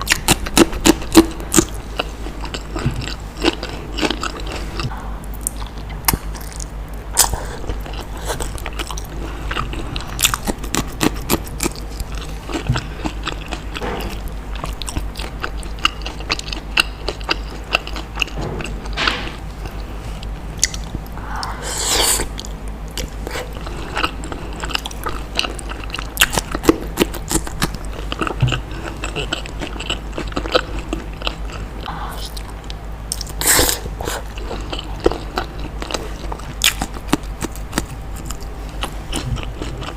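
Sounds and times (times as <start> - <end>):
close chewing and biting: 0.0 - 39.9.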